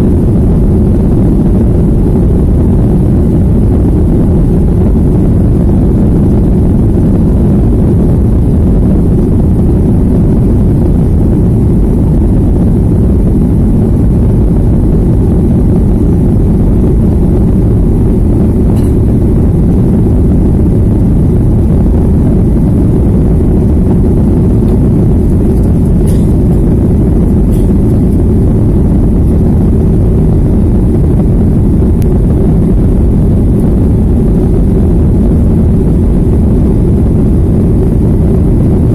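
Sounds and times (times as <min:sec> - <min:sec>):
jet engine rumble inside cabin: 0:00.0 - 0:38.9.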